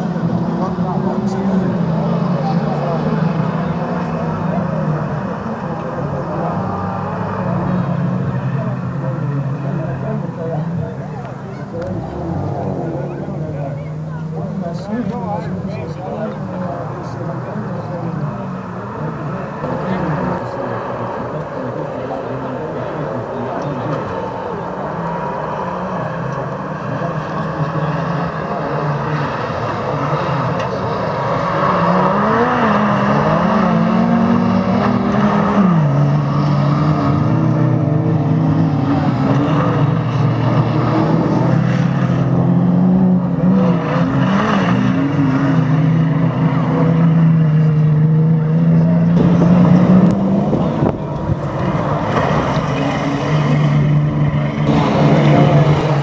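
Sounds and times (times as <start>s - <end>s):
race truck engines revving: 0.0s - 56.0s.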